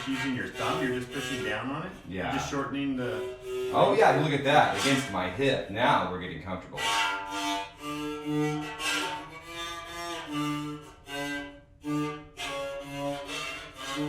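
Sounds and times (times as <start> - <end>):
one-string bowed fiddle notes: 0.0 - 14.0.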